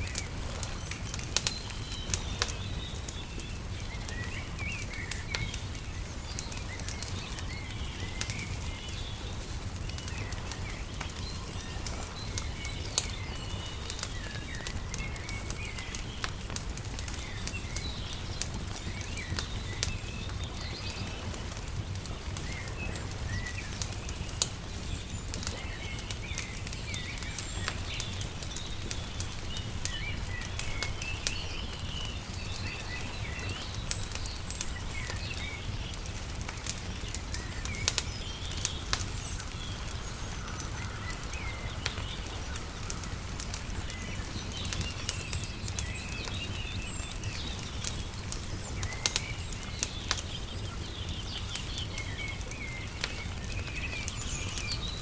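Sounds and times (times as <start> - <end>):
small birds chirping: 0.0 - 55.0
wood fire crackling and popping: 0.0 - 55.0.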